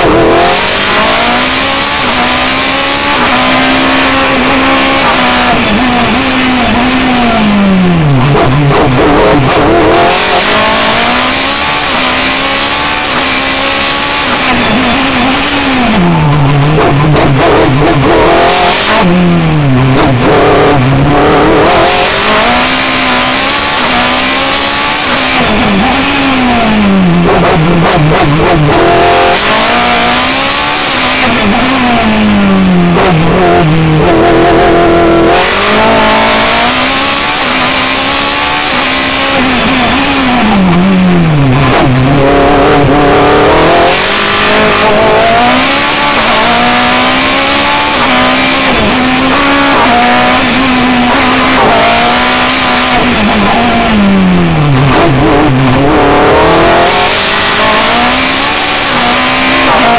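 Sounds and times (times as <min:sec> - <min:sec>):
racing car engine revving: 0:00.0 - 0:59.9.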